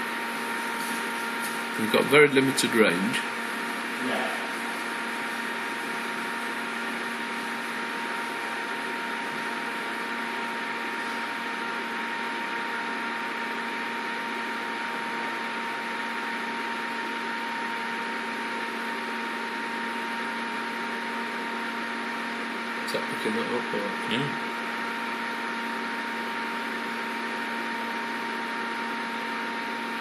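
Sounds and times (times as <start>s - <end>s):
machine hum with high whine: 0.0s - 30.0s.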